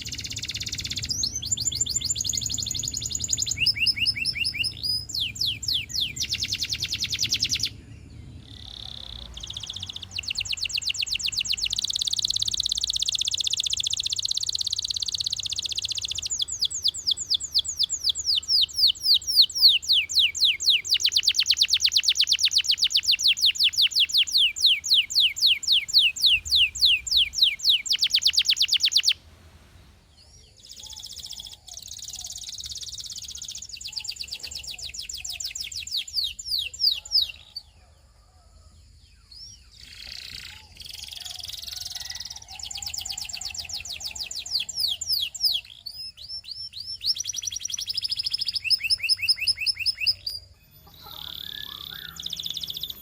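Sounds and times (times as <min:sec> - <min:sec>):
canary singing: 0:00.0 - 0:37.7, 0:39.2 - 0:53.0.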